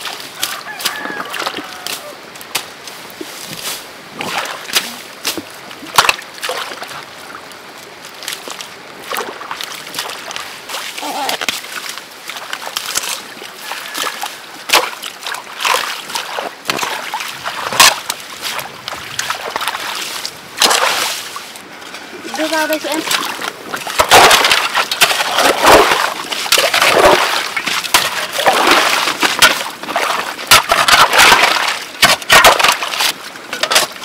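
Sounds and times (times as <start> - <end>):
running water: 4.1 - 34.0
water splashing: 4.1 - 34.0.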